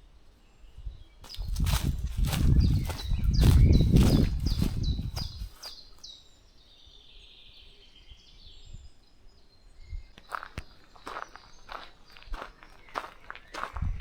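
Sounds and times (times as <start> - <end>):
birds chirping: 0.3 - 14.0.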